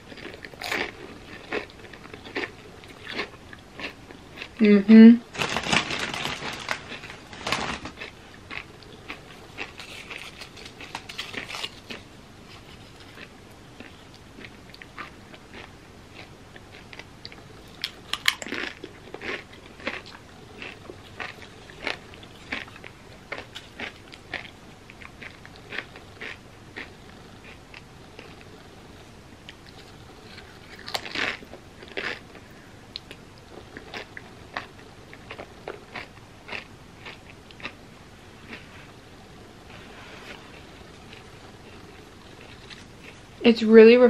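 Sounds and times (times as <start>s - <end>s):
crunching tortilla chips: 0.1s - 4.6s, 5.3s - 28.5s, 29.5s - 37.8s.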